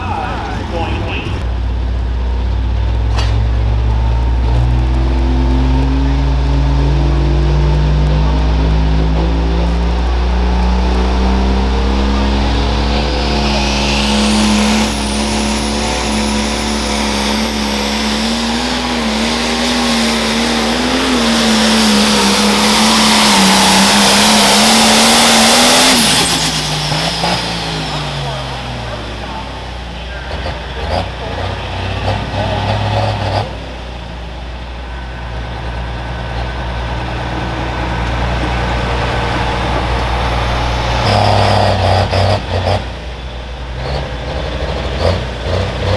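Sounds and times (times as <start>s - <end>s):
tractor engine at full throttle: 0.0s - 45.9s.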